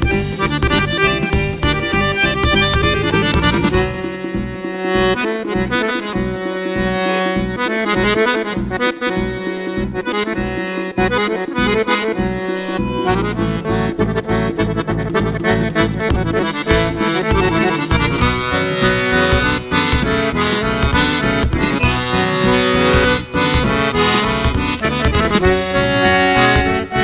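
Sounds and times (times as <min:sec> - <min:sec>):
button accordion dance tune: 0:00.0 - 0:27.0.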